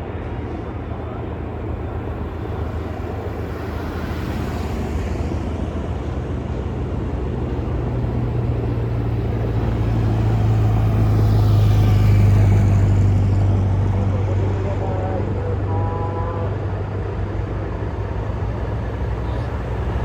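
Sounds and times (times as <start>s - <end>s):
vehicle engine humming: 0.1s - 20.0s.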